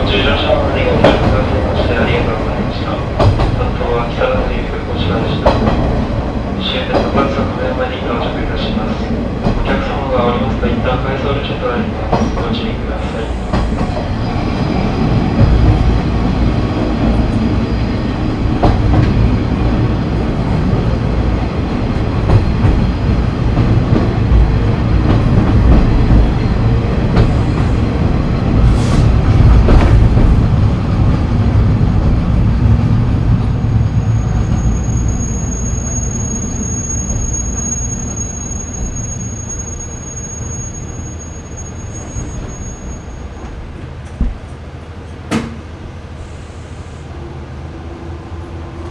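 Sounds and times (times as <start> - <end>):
diesel railcar rumble: 0.0 - 48.9.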